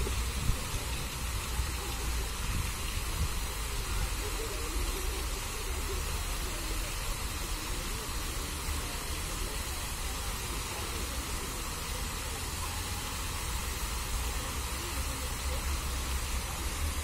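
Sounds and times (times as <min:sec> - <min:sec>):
fountain water hissing: 0:00.0 - 0:17.0.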